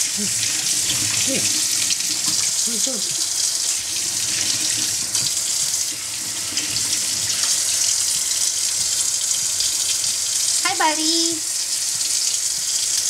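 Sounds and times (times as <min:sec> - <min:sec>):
tap water running into basin: 0:00.0 - 0:13.0.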